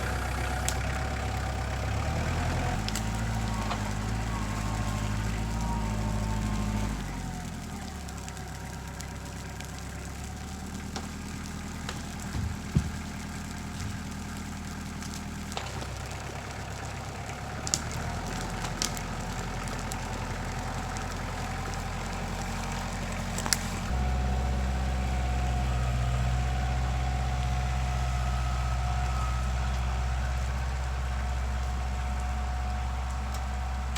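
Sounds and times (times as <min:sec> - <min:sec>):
engine running at low speed: 0:00.0 - 0:33.9.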